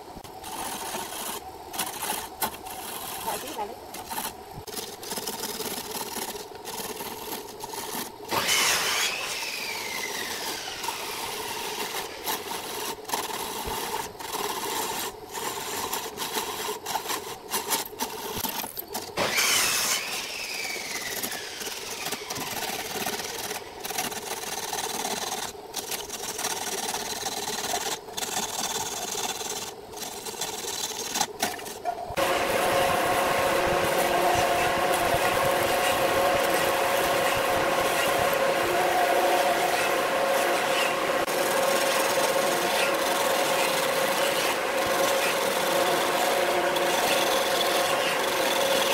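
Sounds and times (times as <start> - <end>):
lathe motor hum: 0.0 - 18.5, 19.2 - 48.9
turning tool scraping wood: 0.0 - 48.9.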